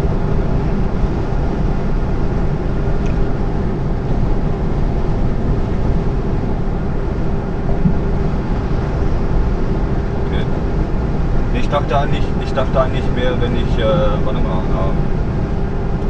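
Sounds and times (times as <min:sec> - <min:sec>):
lorry engine drone: 0:00.0 - 0:16.0
road noise: 0:00.0 - 0:16.0.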